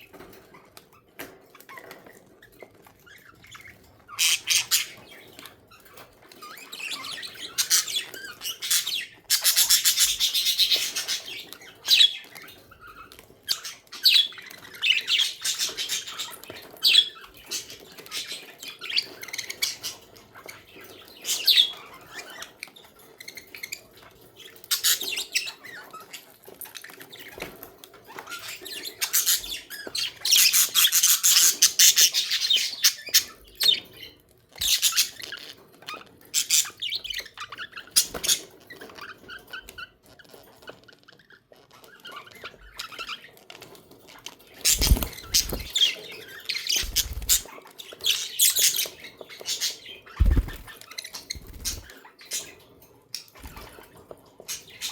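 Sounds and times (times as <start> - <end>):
budgerigars chattering and chirping: 1.6 - 39.8, 44.1 - 54.9.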